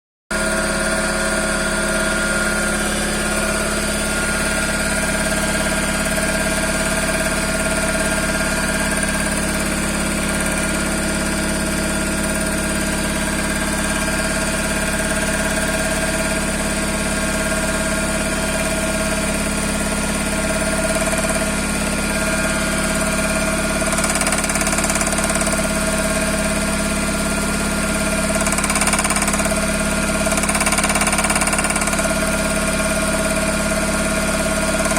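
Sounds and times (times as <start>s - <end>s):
engine knocking: 0.3s - 34.9s
car engine idling: 0.4s - 34.9s.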